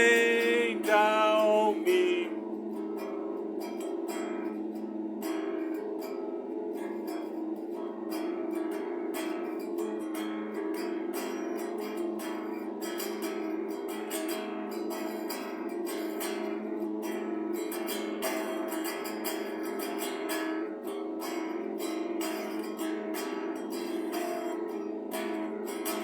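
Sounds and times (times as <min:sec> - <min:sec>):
guitar strumming: 0:00.0 - 0:26.0.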